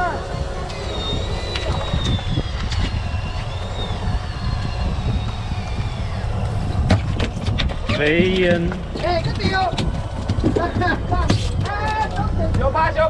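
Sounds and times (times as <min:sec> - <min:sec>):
boat engine rumble: 0:00.0 - 0:13.0
wind on microphone: 0:00.0 - 0:13.0.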